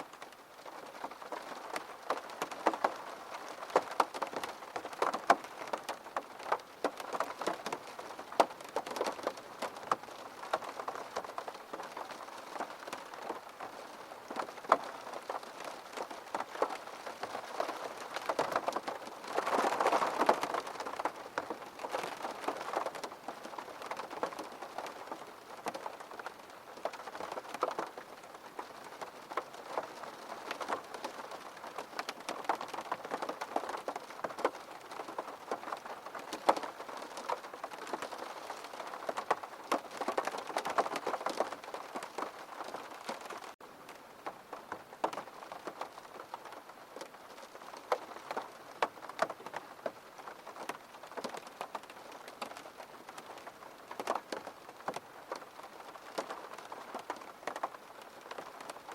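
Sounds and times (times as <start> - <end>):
raindrops ticking on a surface: 0.0 - 58.9
steady rain: 0.0 - 58.9.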